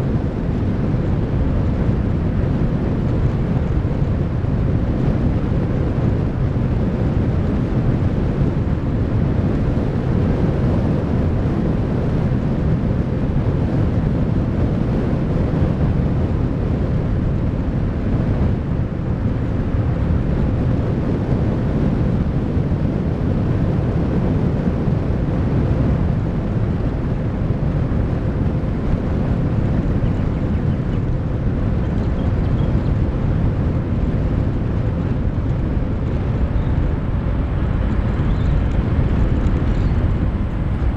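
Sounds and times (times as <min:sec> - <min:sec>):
car wind and road noise: 0:00.0 - 0:40.9.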